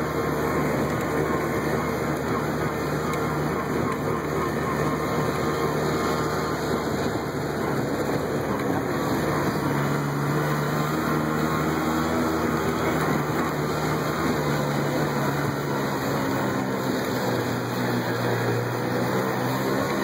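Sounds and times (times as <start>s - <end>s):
car engine with road noise: 0.0s - 20.0s.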